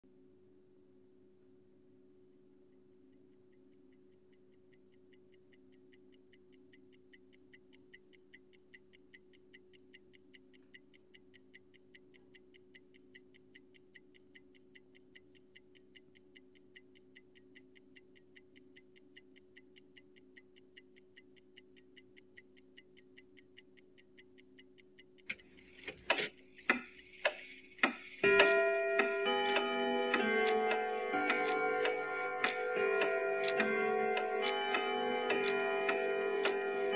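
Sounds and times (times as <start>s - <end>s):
quick ticking: 3.2s - 36.9s.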